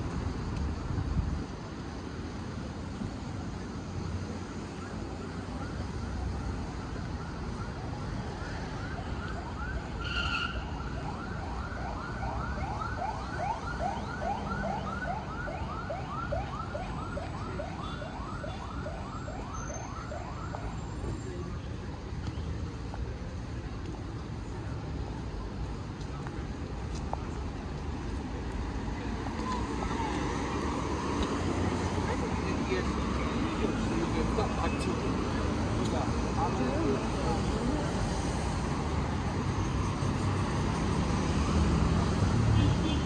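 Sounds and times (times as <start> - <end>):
road traffic rumble: 0.0 - 43.0.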